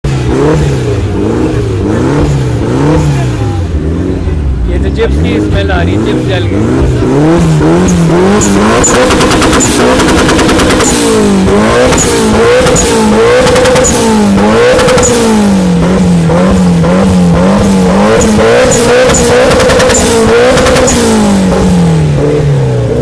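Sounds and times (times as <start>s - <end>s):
car engine bouncing off rev limiter: 0.1s - 23.0s.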